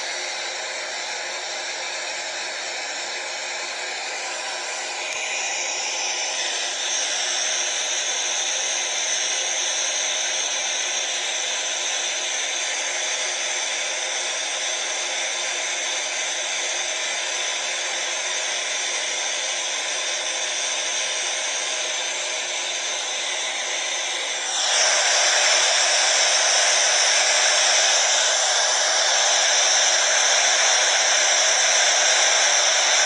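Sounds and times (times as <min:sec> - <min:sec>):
hair dryer blowing: 0:00.0 - 0:33.0.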